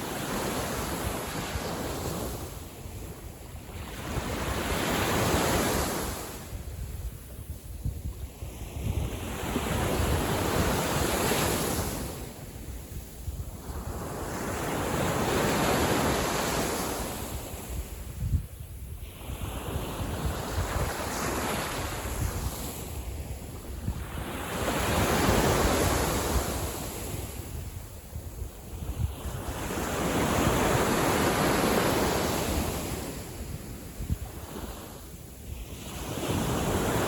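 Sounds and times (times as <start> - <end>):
small waves breaking on beach: 0.0 - 6.7, 8.3 - 18.1, 19.0 - 37.0
wind rumble on microphone: 0.0 - 37.0.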